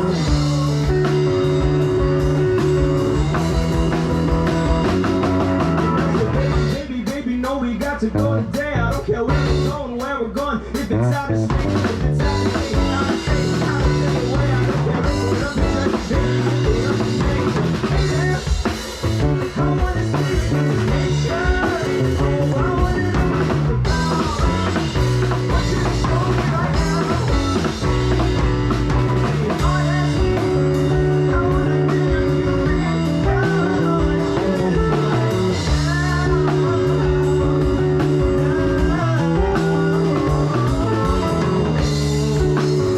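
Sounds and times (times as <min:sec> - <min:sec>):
live rock band playing: 0:00.0 - 0:42.9.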